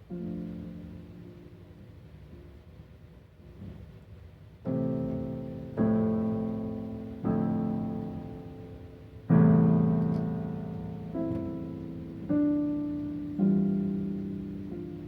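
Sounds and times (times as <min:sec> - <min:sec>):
piano chords: 0:00.0 - 0:02.0, 0:04.6 - 0:15.0.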